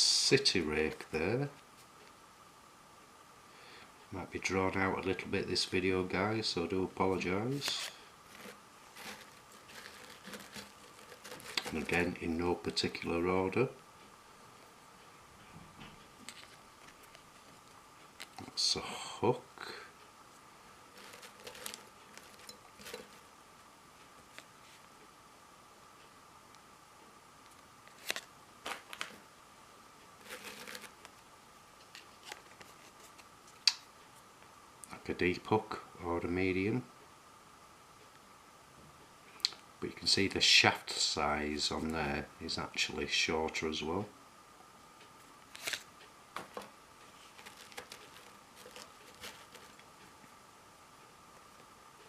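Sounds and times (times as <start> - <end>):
faint high hum: 0.0 - 52.0
faint steady whine: 0.0 - 52.0.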